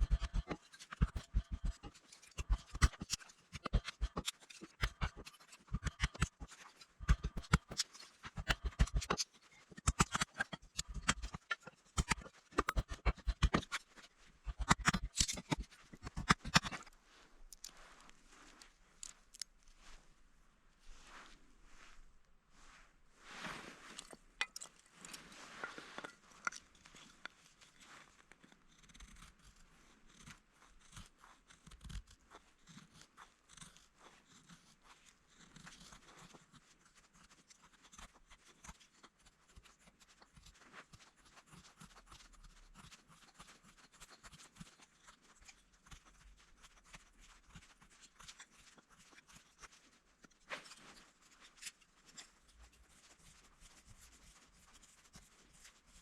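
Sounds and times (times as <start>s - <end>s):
faint crackles and clicks: 0.0s - 20.2s, 23.3s - 56.0s.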